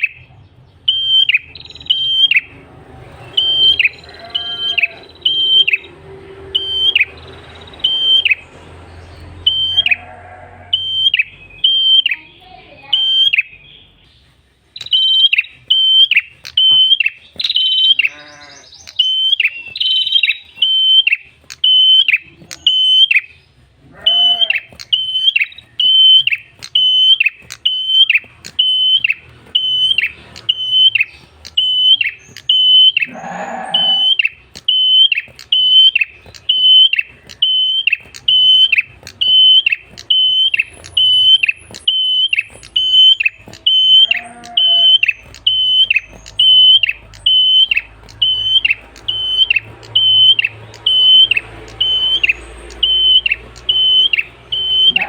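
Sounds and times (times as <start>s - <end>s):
scratchy bird chatter: 0.0s - 55.0s
bird calling clear note: 3.2s - 8.4s, 9.5s - 14.0s, 14.7s - 23.4s, 24.0s - 55.0s.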